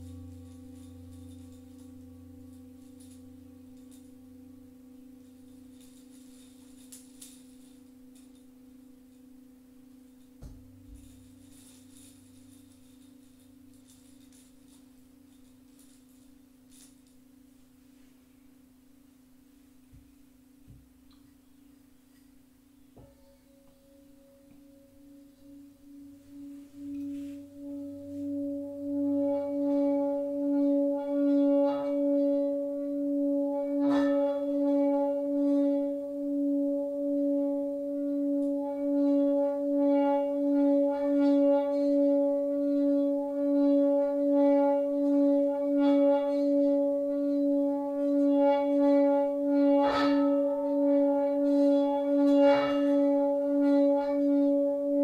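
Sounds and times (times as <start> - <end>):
singing bowl hum: 0.0 - 55.0.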